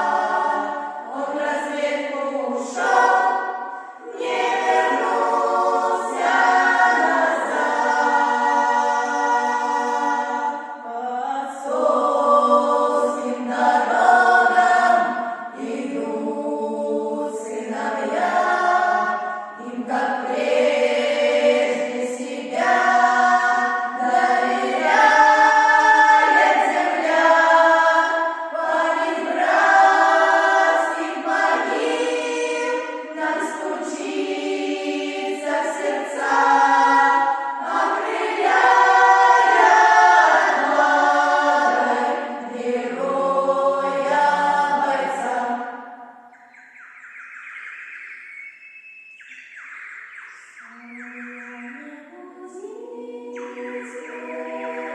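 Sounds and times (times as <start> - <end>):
choir singing held chords: 0.0 - 54.9.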